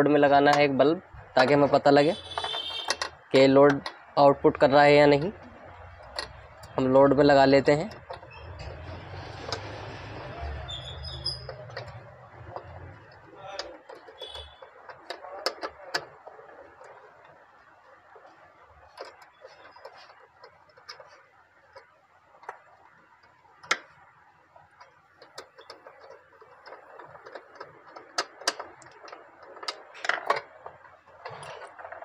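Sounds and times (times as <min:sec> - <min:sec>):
electrical parts clicking: 0:00.0 - 0:32.0.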